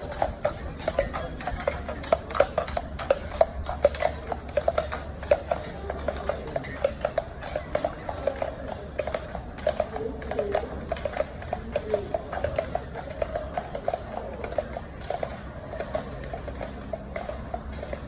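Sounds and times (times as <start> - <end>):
horse hooves clip-clopping: 0.0 - 18.0.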